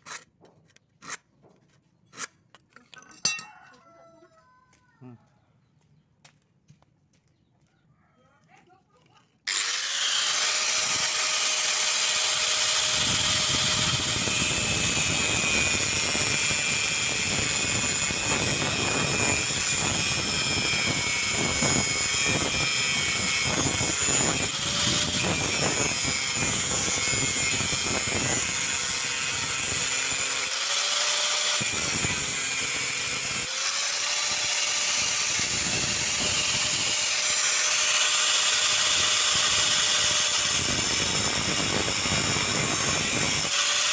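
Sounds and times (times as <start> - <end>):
angle grinder cutting steel: 2.1 - 3.8, 9.5 - 43.9.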